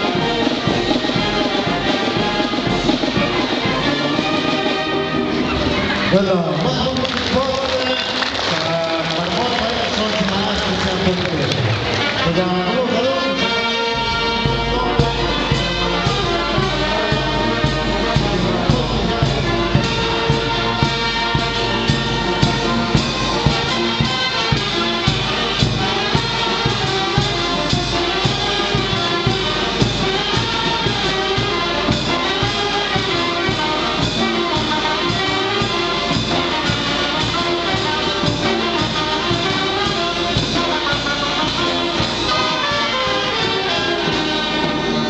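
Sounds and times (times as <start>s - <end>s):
brass band playing lively tune: 0.0s - 45.0s.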